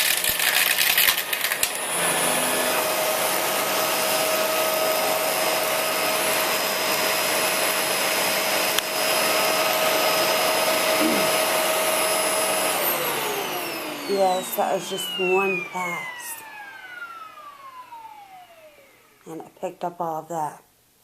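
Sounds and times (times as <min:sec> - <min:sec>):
vacuum cleaner running: 0:00.0 - 0:19.4.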